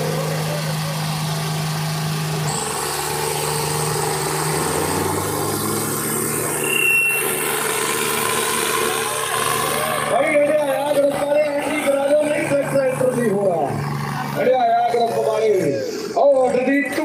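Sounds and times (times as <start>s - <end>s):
tractor diesel engines straining: 0.0s - 17.0s.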